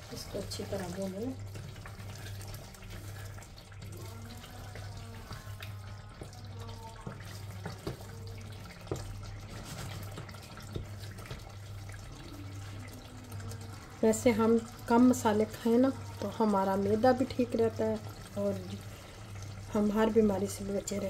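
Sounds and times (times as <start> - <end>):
chicken sizzling in a pot: 0.0 - 21.0.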